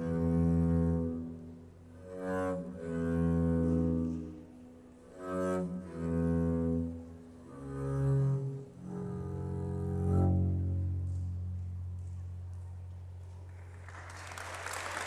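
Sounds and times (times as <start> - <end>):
double bass bowed long notes: 0.0 - 13.5.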